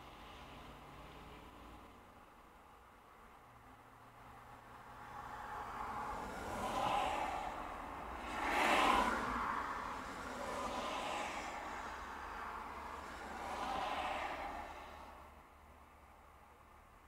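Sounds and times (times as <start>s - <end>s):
traffic passing outside: 0.0s - 17.0s.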